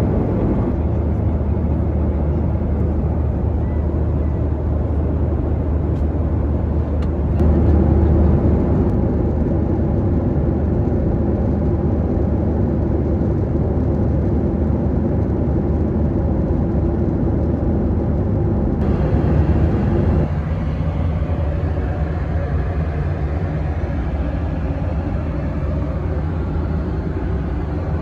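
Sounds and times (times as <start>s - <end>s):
jet engine roar in cabin: 0.0s - 28.0s.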